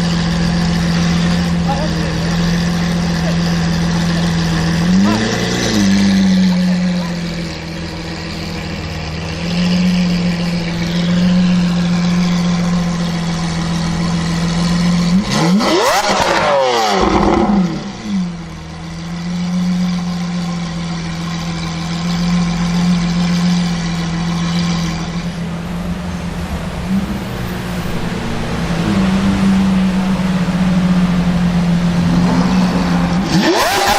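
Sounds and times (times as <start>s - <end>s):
car engine idling: 0.0s - 33.9s
engine revving: 0.0s - 33.9s.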